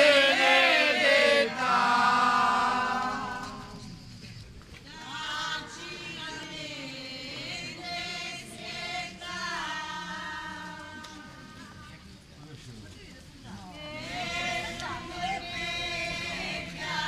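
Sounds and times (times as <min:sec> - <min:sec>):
group singing a hymn: 0:00.0 - 0:04.2, 0:04.8 - 0:12.0, 0:13.7 - 0:17.0.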